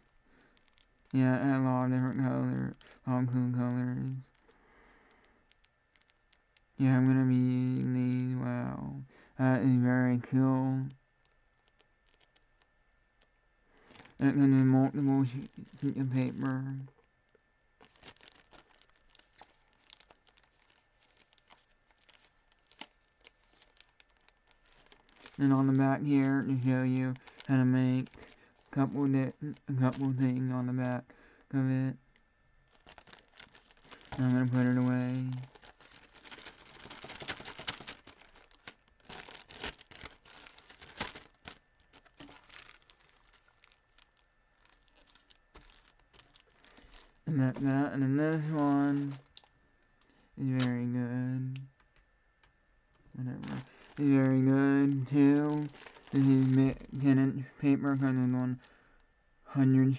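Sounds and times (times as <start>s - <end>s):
plastic bag crinkling: 0.0s - 6.8s, 10.8s - 50.8s, 51.5s - 59.0s
plastic wrapping crackling: 0.0s - 6.8s, 10.3s - 59.0s.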